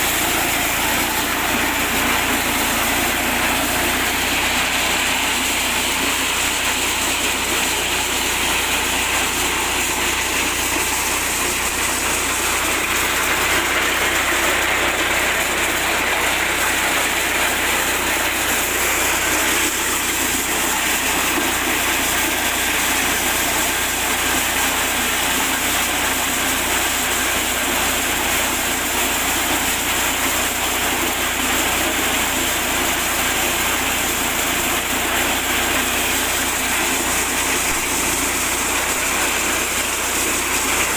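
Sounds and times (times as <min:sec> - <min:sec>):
corn sheller engine running: 0:00.0 - 0:40.9.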